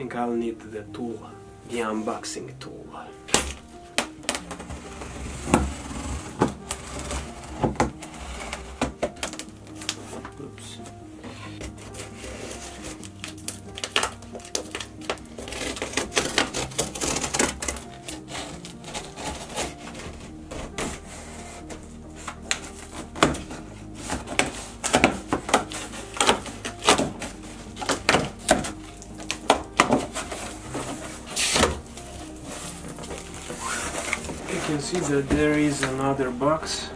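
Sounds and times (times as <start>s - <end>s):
background music: 0.0s - 36.9s
cardboard flaps scraping: 3.3s - 10.4s, 11.2s - 36.8s
packing tape tearing: 3.3s - 10.4s, 11.2s - 36.2s.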